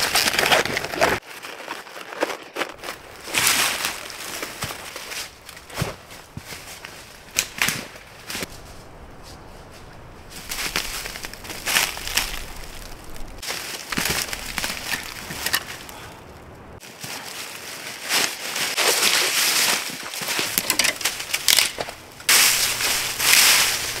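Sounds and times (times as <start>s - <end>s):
dry twigs crunching and crackling: 0.0s - 24.0s.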